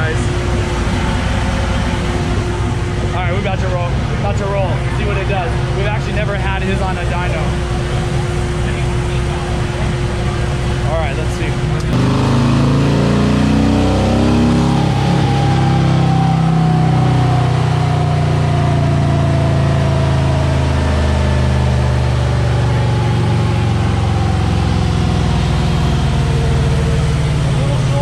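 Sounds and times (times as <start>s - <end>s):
motorcycle engine revving on dyno: 0.0s - 28.0s.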